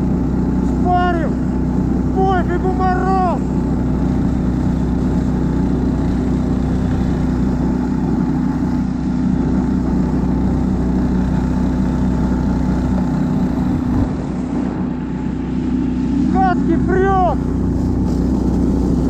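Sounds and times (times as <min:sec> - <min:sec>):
tracked snow vehicle engine running: 0:00.0 - 0:19.0.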